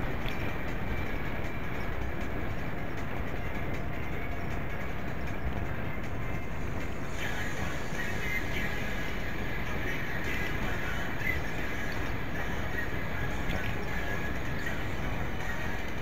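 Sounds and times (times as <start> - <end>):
bicycle road rumble: 0.0 - 16.0.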